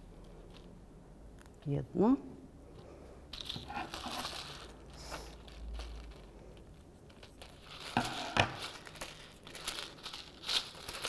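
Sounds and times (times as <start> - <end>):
crinkling and rustling: 0.0 - 1.8, 2.6 - 11.0.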